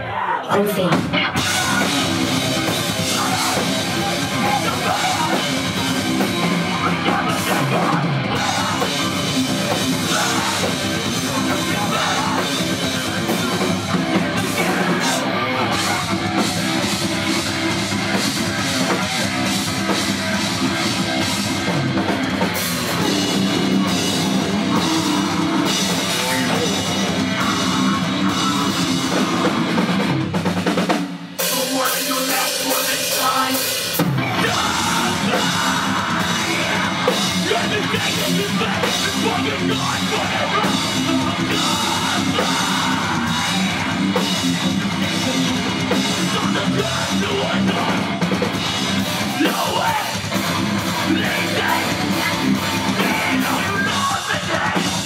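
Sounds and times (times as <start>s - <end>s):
heavy rock band playing: 0.0s - 55.0s.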